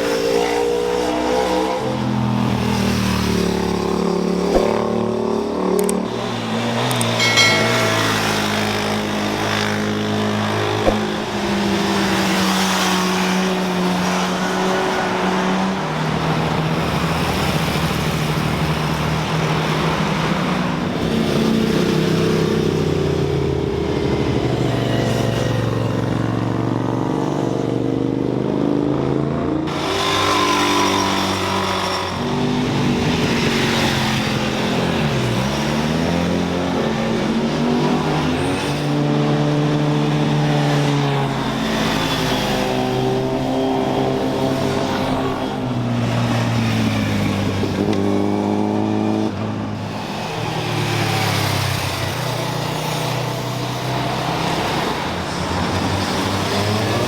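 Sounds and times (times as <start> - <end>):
motorcycle and car engines passing: 0.0 - 57.0.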